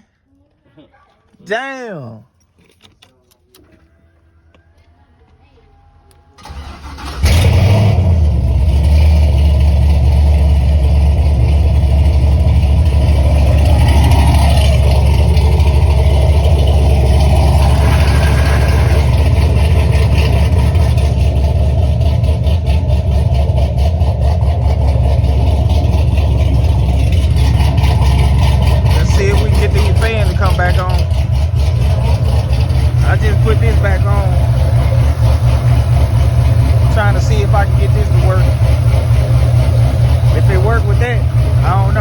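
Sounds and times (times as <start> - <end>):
car engine idling: 2.6 - 42.0.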